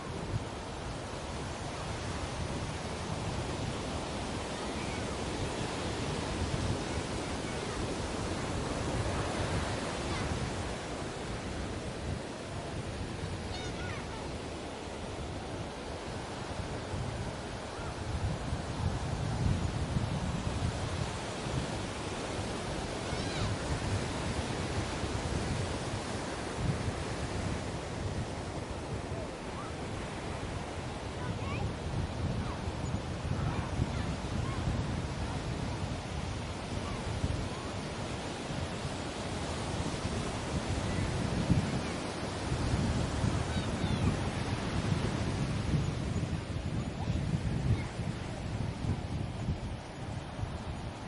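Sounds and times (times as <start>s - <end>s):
ocean surf washing on beach: 0.0s - 51.0s.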